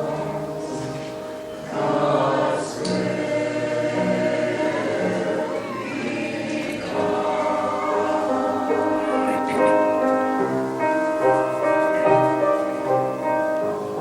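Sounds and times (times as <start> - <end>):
church choir singing: 0.0 - 14.0.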